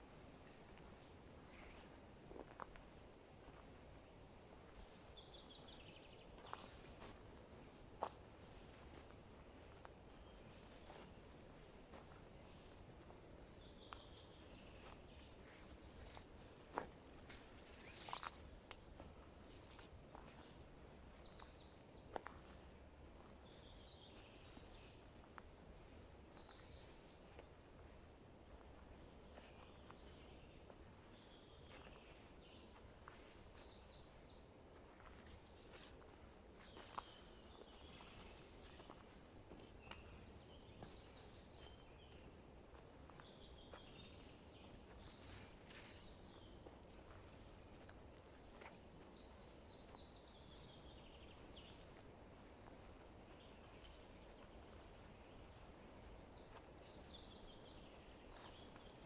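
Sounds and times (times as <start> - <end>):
faint songbird song: 0.0 - 59.0
forest birdsong: 0.0 - 59.0.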